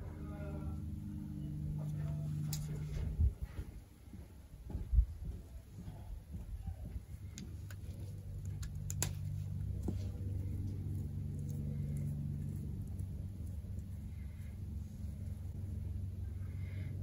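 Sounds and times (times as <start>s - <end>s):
low steady drone: 0.0s - 3.6s, 6.0s - 17.0s.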